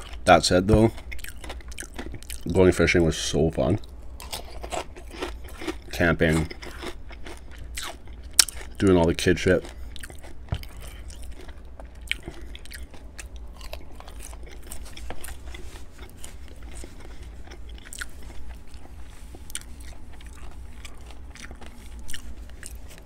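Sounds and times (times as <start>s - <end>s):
chewing crisp food: 0.0s - 23.0s.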